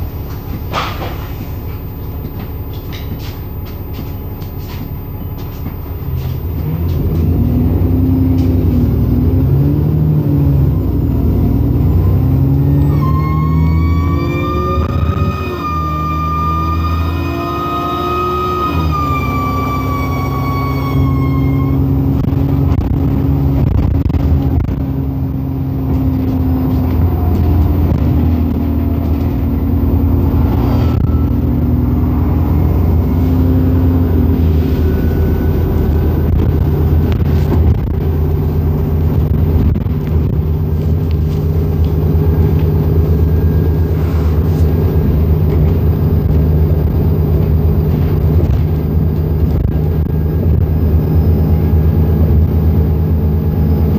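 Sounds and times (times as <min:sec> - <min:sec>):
bus diesel engine drone: 0:00.0 - 0:53.9
falling whine: 0:03.4 - 0:53.9.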